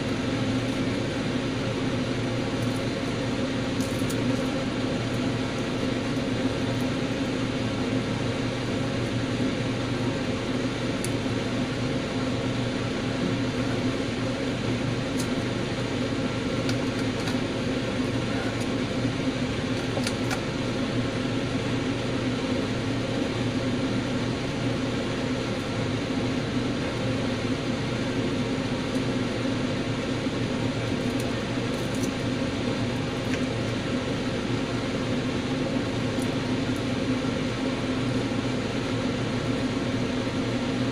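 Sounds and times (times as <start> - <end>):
electric motor hum: 0.0 - 40.9.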